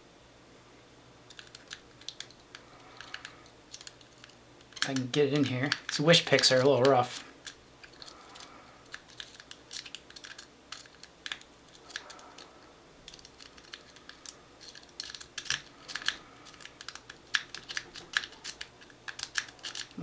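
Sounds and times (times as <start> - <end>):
lock pick raking metallic clicks: 1.3 - 20.0.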